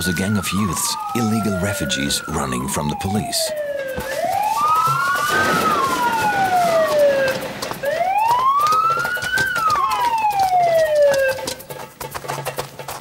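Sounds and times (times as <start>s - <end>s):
police siren wailing: 0.0s - 11.7s.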